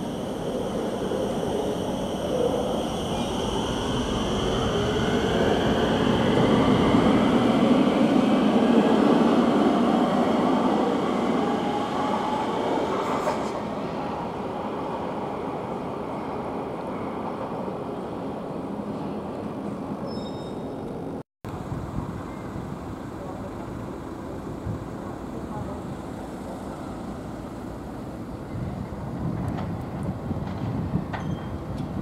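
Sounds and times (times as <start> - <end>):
electric train whine: 0.0 - 20.0, 20.9 - 32.0.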